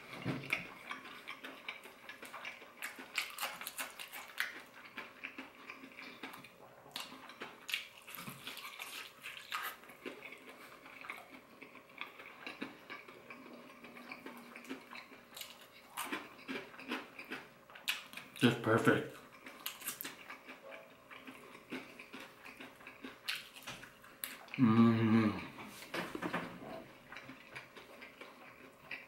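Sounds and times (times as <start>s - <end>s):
chewing crispy fried chicken: 0.0s - 29.0s.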